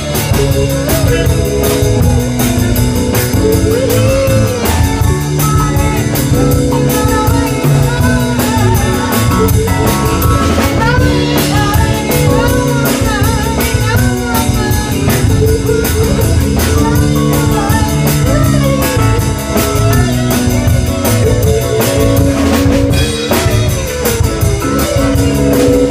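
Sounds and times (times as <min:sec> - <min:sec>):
drum kit beat: 0:00.0 - 0:25.9
guitar: 0:00.0 - 0:25.9.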